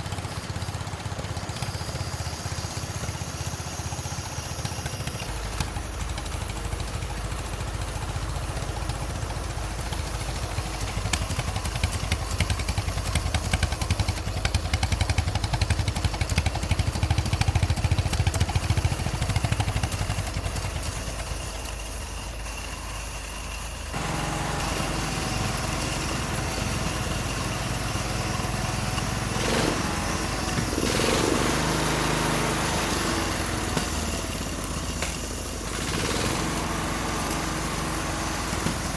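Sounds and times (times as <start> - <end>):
faint engine whine: 0.0 - 38.9
tractor engine running: 0.0 - 38.9.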